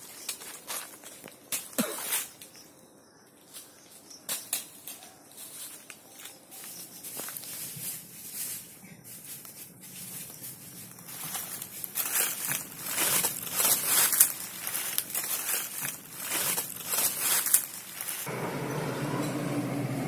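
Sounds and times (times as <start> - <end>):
footsteps crunching dry leaves: 0.0 - 2.5, 3.4 - 18.3.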